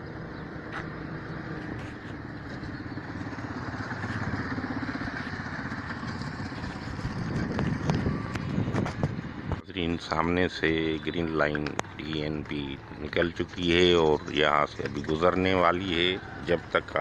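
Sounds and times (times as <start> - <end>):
vehicle engine running: 0.0 - 9.6, 10.2 - 17.0
steady traffic noise: 0.0 - 17.0.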